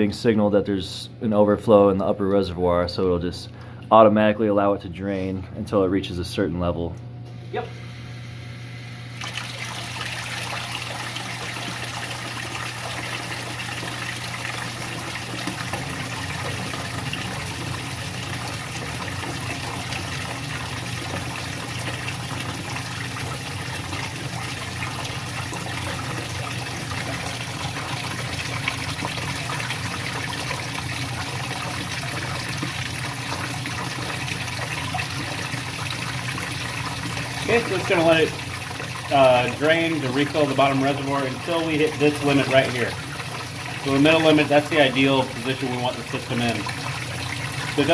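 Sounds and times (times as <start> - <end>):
water running into a reservoir: 9.1 - 47.9.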